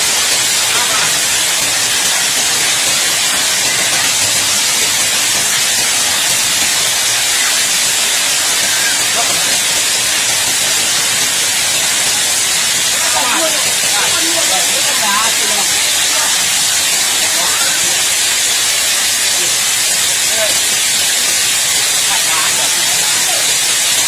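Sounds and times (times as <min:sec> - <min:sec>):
hail pelting pavement: 0:00.0 - 0:24.0.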